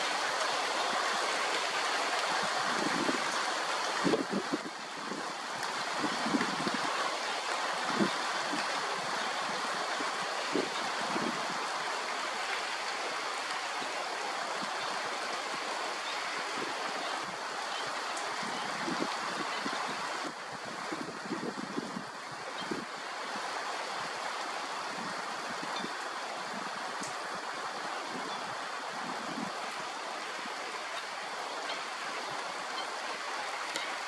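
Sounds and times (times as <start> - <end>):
rain falling on water: 0.0 - 34.0.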